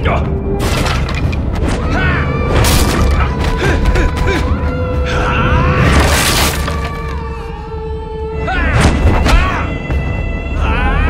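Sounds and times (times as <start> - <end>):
dramatic film music: 0.0 - 11.0.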